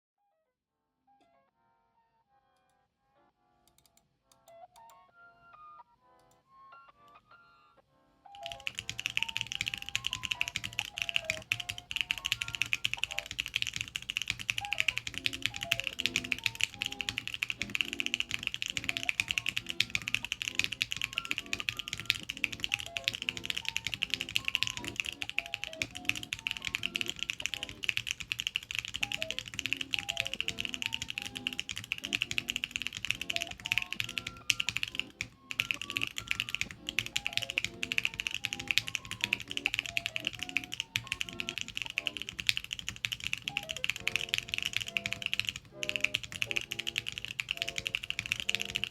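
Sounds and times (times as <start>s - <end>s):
background music: 1.1s - 48.9s
mechanical keyboard typing: 8.3s - 48.9s.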